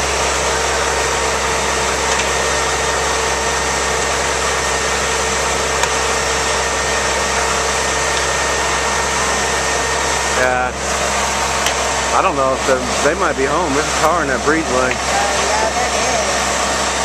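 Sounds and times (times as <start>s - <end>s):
fire engine running: 0.0s - 17.0s.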